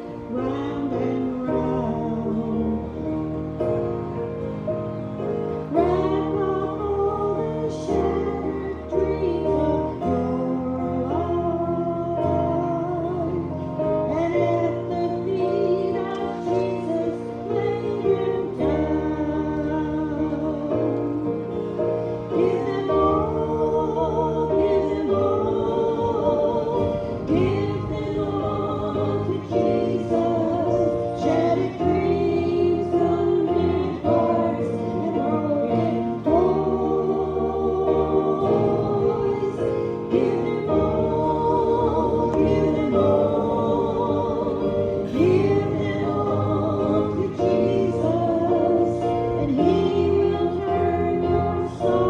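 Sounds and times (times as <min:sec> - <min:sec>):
group singing a hymn: 0:00.0 - 0:52.0
guitar accompaniment: 0:00.0 - 0:52.0.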